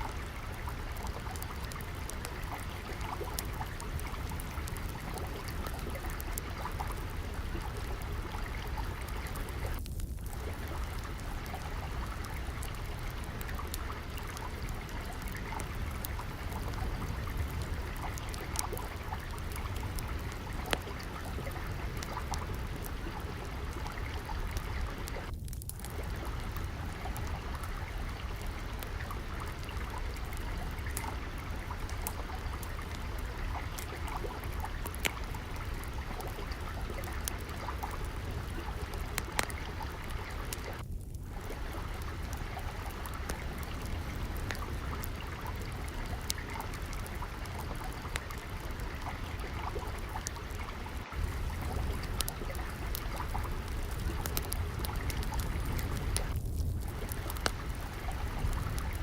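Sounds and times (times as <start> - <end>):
crackling wood fire: 0.0 - 59.0
trickling water: 0.0 - 59.0.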